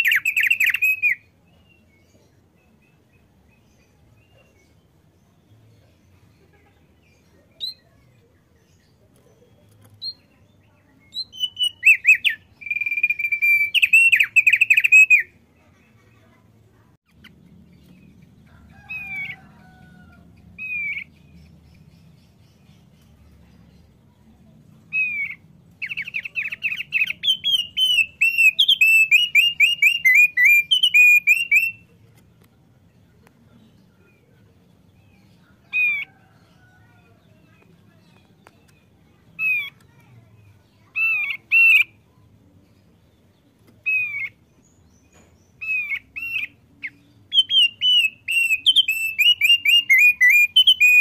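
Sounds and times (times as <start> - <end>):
bird singing high chirps: 0.0 - 6.3, 7.0 - 16.3, 17.1 - 32.0, 33.5 - 51.0.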